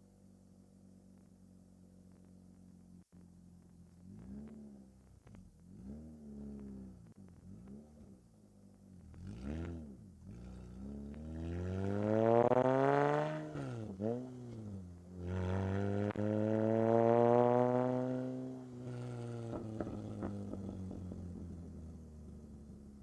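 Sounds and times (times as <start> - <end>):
car engine revving: 4.0 - 23.0.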